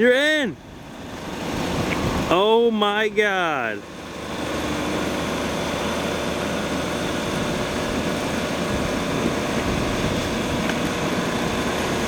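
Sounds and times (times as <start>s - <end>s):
pickup engine droning: 0.0s - 12.0s.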